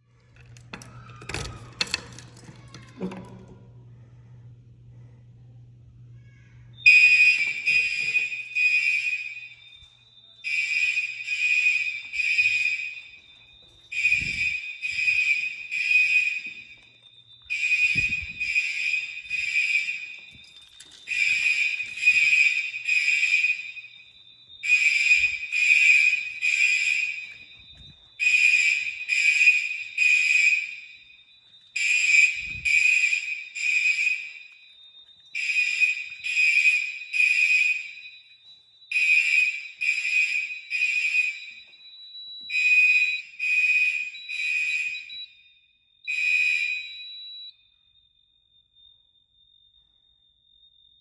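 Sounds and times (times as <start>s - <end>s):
fire alarm horn blasts: 0.0s - 3.6s, 6.7s - 51.0s.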